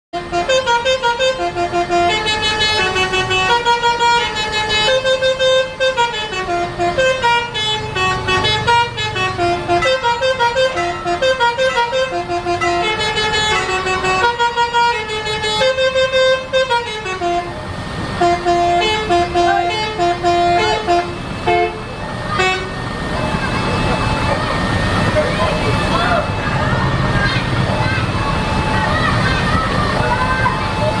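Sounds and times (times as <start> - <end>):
bus horn playing a melody: 0.1 - 26.6.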